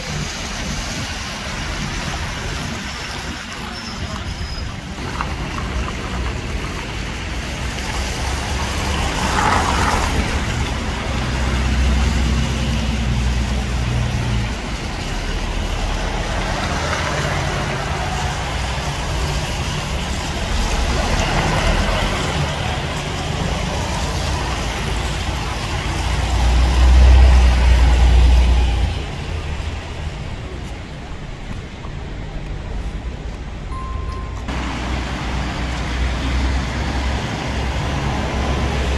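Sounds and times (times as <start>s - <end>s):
bus passing close: 0.0s - 38.9s
traffic rumble: 0.0s - 38.9s.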